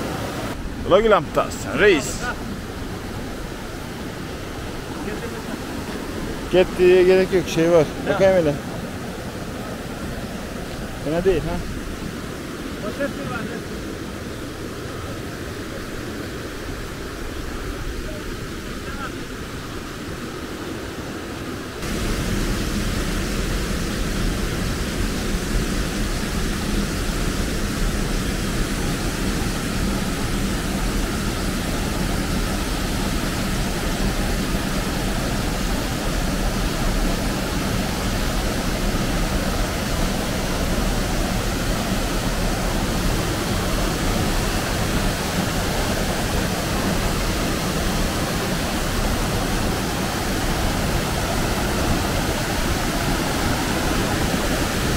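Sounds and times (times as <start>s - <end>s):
stream rushing over boulders: 0.0s - 54.9s.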